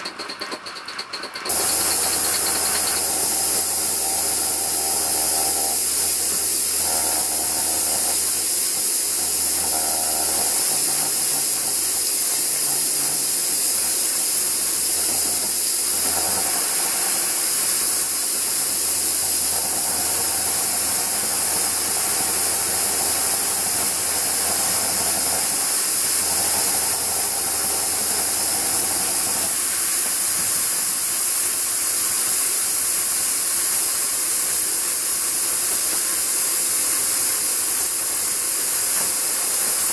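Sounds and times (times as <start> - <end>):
steam hissing: 1.4 - 39.9.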